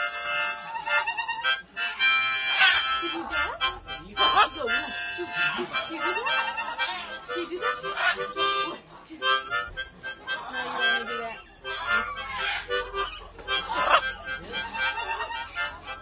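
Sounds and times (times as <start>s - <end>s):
harmonica tune: 0.0s - 16.0s.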